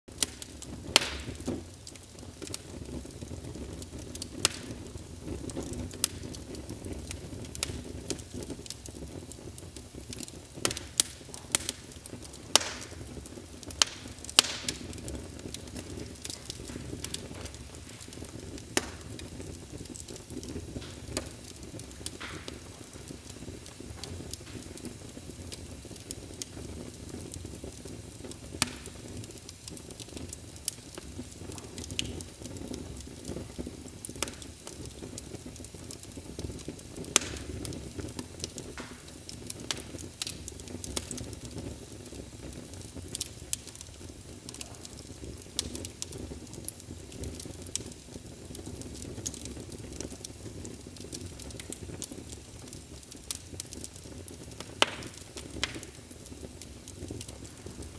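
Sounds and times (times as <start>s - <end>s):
fire crackling and popping: 0.1s - 57.9s.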